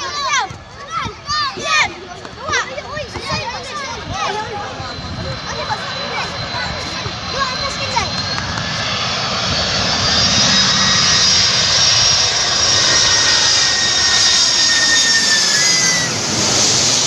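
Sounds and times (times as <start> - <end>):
jet airliner passing overhead: 0.0 - 17.0
high engine whine: 1.5 - 17.0.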